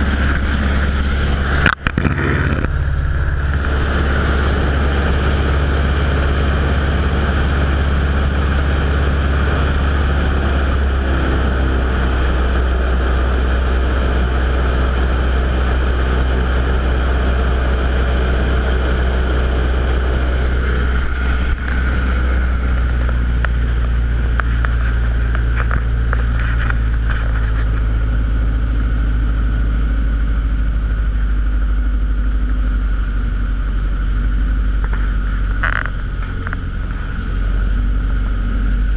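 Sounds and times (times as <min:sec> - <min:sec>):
propeller plane engine droning: 0:00.0 - 0:38.9.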